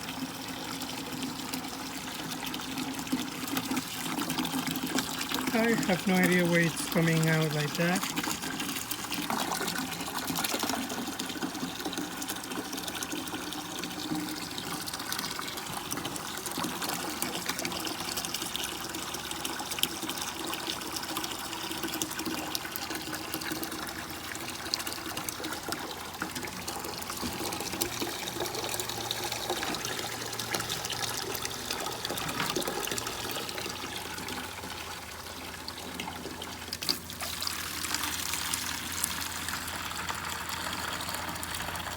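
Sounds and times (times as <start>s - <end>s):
small pump running: 0.0s - 41.9s
water splashing from hose: 0.0s - 41.9s.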